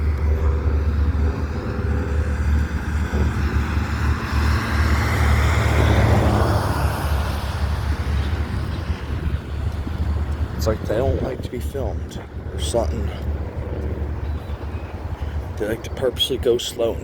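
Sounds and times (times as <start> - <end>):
wheels rushing on rail: 0.0 - 15.9
freight train rumbling: 0.0 - 17.0.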